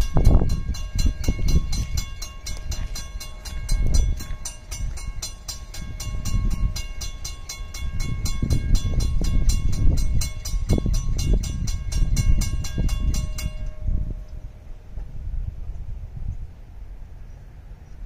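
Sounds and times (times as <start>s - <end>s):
crossing warning bell ringing: 0.0s - 14.8s
low rumble: 0.0s - 18.0s.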